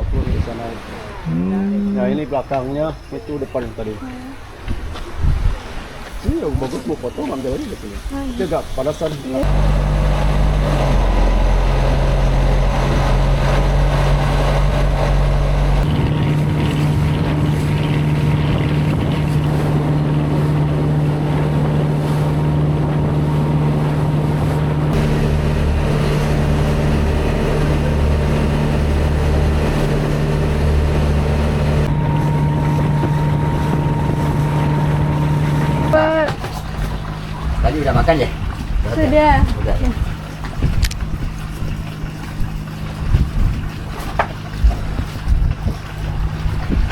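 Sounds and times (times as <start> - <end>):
motorboat engine running: 0.0 - 4.8, 9.1 - 46.9.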